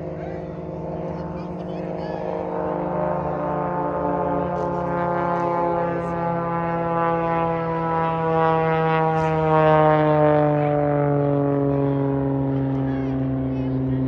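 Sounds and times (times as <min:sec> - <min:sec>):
aircraft engine drone: 0:00.0 - 0:14.0.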